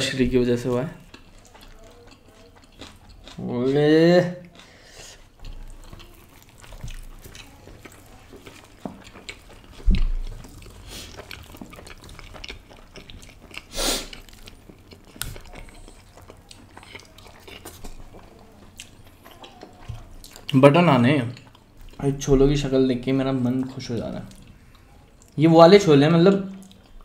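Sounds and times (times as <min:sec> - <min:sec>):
chewing and mouth sounds: 0:00.6 - 0:22.2, 0:24.2 - 0:25.4, 0:26.3 - 0:27.0.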